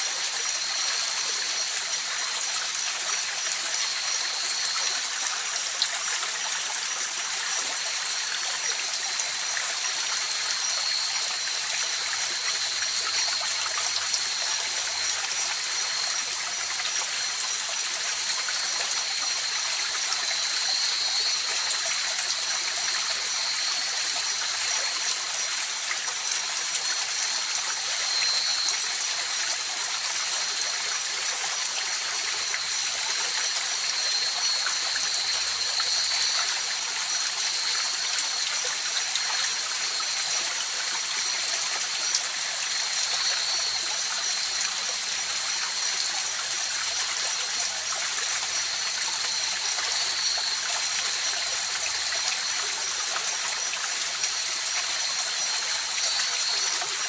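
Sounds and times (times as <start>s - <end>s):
night insect trill: 0.0s - 57.0s.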